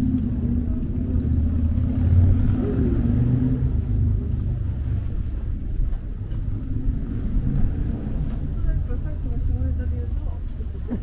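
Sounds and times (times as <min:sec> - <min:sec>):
city street noise: 0:00.0 - 0:11.0
engine rumbling: 0:00.0 - 0:11.0.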